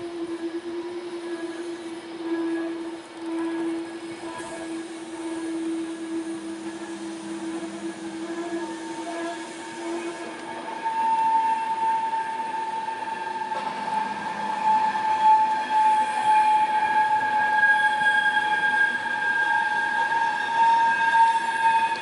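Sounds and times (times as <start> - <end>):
train wheels squealing: 0.0 - 22.0.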